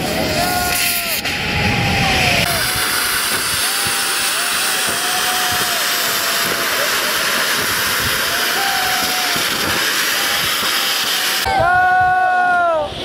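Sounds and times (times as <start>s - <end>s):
loud rushing hiss: 0.0s - 13.0s.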